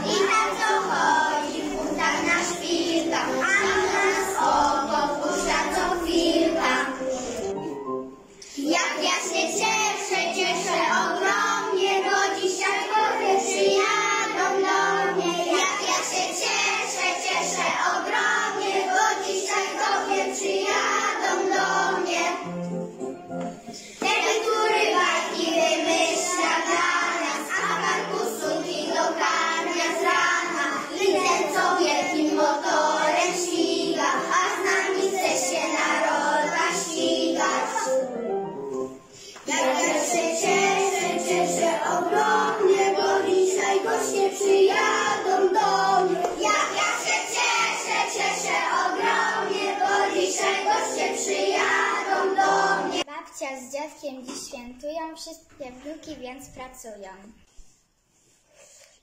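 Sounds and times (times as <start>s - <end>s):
children singing: 0.0s - 7.8s, 8.4s - 22.6s, 23.9s - 38.2s, 39.4s - 53.1s
instrumental backing music: 0.0s - 53.0s.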